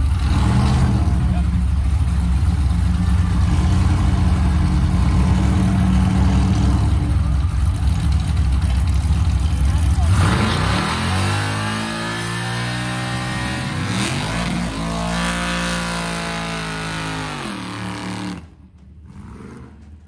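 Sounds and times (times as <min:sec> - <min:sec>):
truck engine revving hard: 0:00.0 - 0:01.7, 0:02.8 - 0:07.4, 0:09.6 - 0:20.0.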